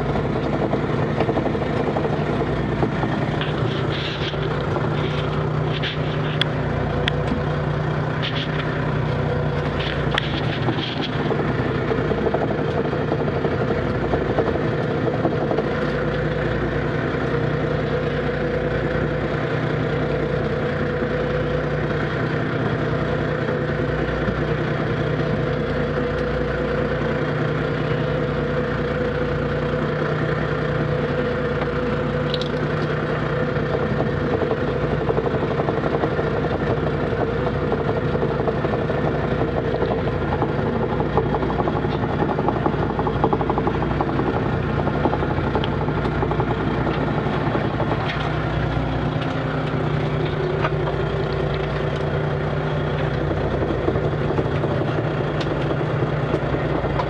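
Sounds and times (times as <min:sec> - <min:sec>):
boat engine and net hauler hum: 0:00.0 - 0:57.0.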